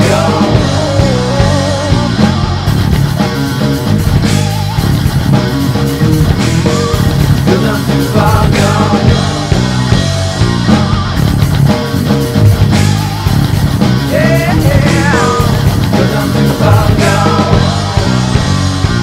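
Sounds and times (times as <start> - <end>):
distorted electric guitar: 0.0 - 19.0
drums: 0.0 - 19.0.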